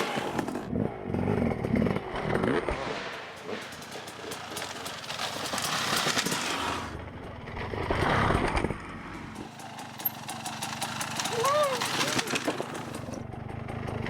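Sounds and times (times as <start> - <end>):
off-road vehicle running: 0.0 - 14.0
sharp clicks and rattles: 1.6 - 7.4, 8.4 - 14.0.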